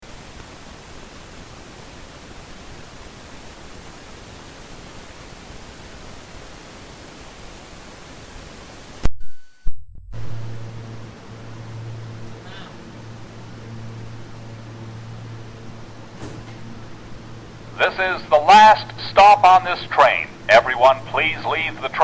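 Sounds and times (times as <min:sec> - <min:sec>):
static hiss: 0:00.0 - 0:22.0.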